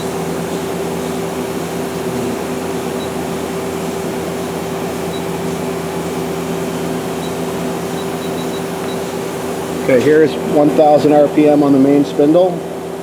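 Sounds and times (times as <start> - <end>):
machine motors and pumps humming: 0.0 - 13.0.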